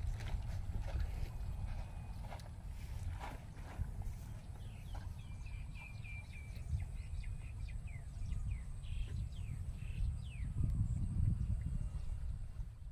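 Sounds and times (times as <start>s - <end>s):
birds chirping: 0.0s - 12.7s
constant low rumble: 0.0s - 12.9s.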